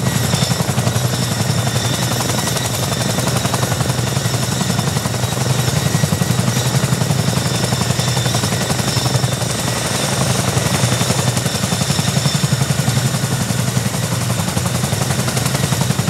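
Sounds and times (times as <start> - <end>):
helicopter rotors chopping: 0.0 - 16.0
turbine engine whine: 0.0 - 16.0.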